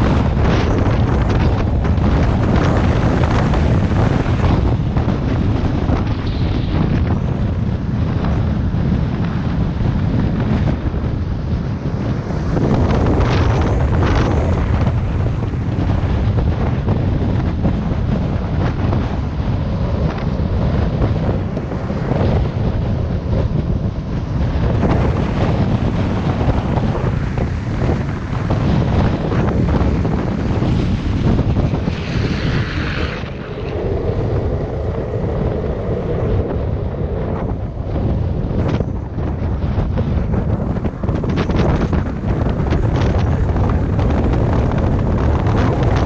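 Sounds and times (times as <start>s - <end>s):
skateboard wheels rolling on asphalt: 0.0s - 46.0s
wind buffeting microphone: 0.0s - 46.0s.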